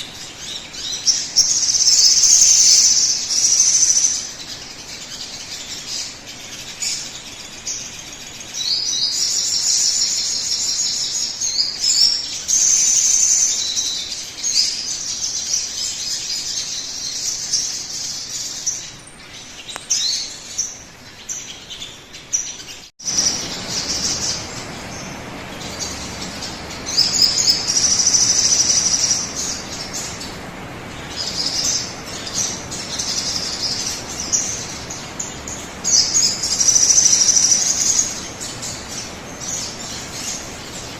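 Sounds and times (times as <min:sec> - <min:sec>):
background hiss: 0:00.0 - 0:40.9
recorded bird chirping: 0:00.0 - 0:40.9.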